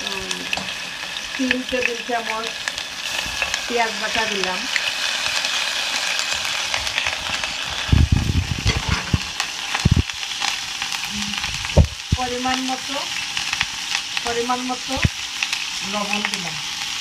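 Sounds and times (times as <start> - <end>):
pastes sizzling in hot oil: 0.0 - 17.0.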